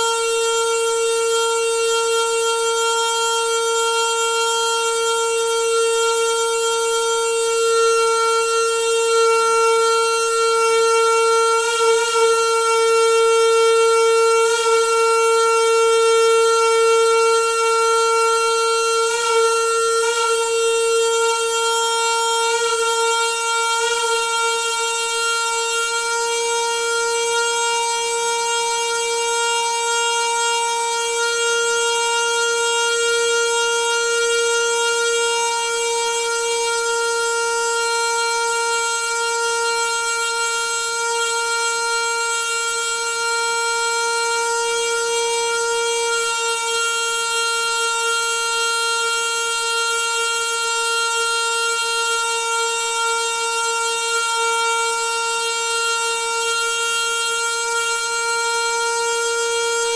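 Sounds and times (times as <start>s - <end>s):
water pipe humming: 0.0s - 49.7s.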